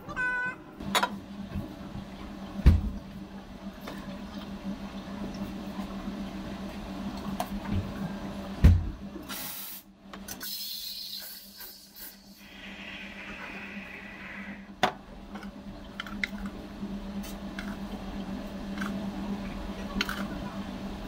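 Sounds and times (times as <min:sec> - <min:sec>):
low machine hum: 0:00.0 - 0:10.4, 0:11.0 - 0:21.0.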